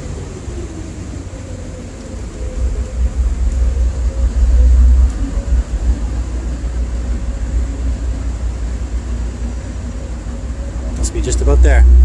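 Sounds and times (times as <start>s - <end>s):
boat engine drone: 0.0s - 12.0s
wind buffeting microphone: 0.0s - 12.0s.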